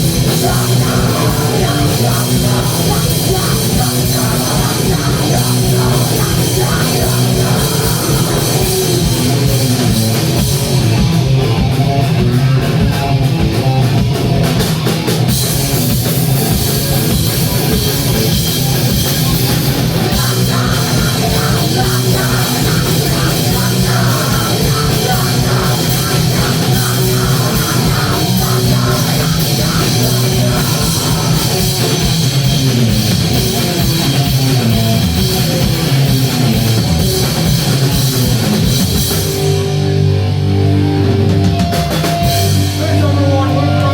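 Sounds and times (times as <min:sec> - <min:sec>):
bass guitar: 0:00.0 - 0:43.9
distorted electric guitar: 0:00.0 - 0:43.9
drum kit: 0:00.0 - 0:43.9.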